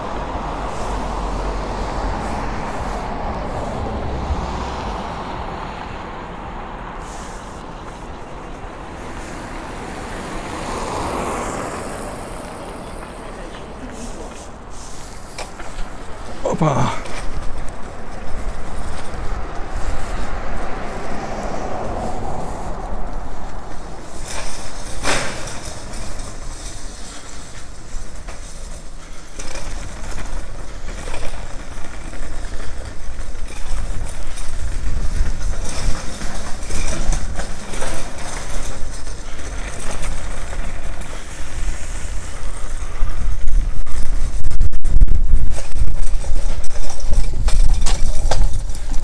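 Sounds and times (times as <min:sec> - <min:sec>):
traffic passing: 0:00.0 - 0:49.0
footsteps: 0:07.0 - 0:49.0.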